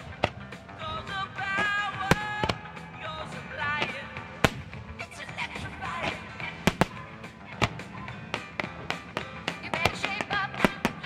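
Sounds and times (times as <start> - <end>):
fireworks bursting: 0.0 - 5.2, 5.8 - 11.0.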